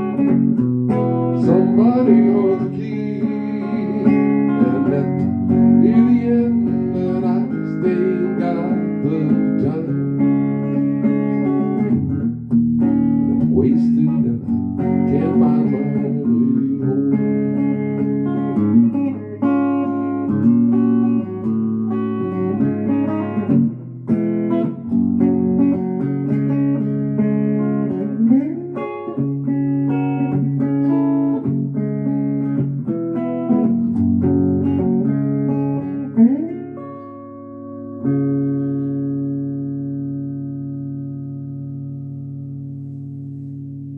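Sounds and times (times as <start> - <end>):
electric guitar picked notes and chords: 0.0 - 43.9.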